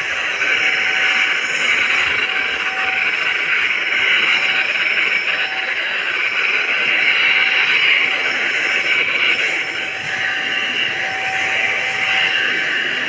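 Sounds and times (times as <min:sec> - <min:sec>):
handheld vacuum cleaner running: 0:00.0 - 0:13.0.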